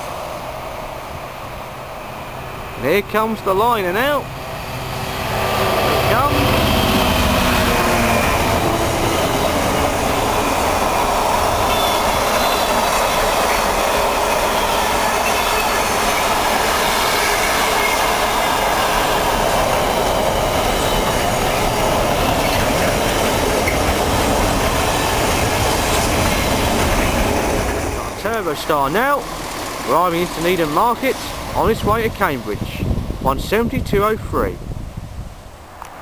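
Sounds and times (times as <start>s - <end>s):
steel wheels on rails: 2.9s - 32.8s.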